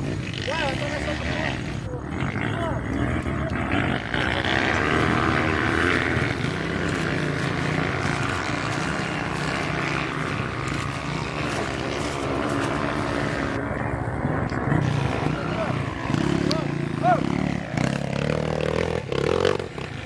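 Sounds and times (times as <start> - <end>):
off-road motorcycle engine running: 0.0 - 20.0.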